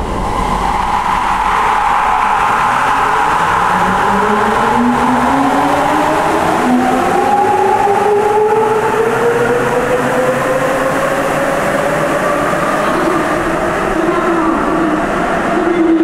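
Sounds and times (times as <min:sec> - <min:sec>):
rumble of rubber tyres: 0:00.0 - 0:16.0.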